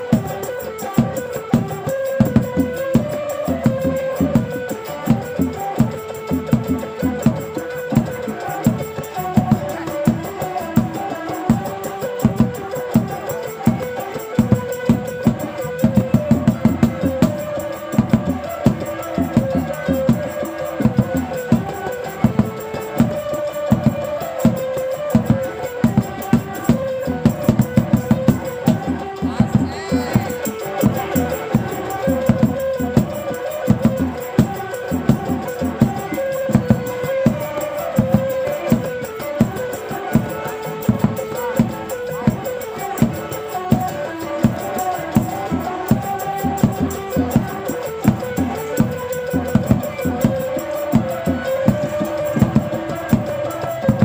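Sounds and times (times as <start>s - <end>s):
hand drums beating: 0.0s - 54.0s
held melody line: 0.0s - 54.0s.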